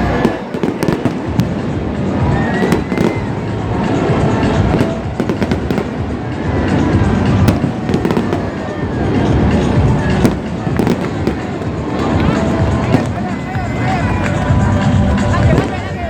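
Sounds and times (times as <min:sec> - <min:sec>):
fireworks cracking and popping: 0:00.0 - 0:16.0
fireworks rumble: 0:00.0 - 0:16.0
music: 0:00.0 - 0:16.0.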